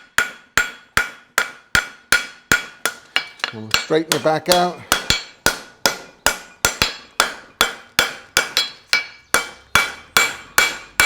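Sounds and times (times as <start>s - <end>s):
hammer striking horseshoe on anvil: 0.0s - 11.0s.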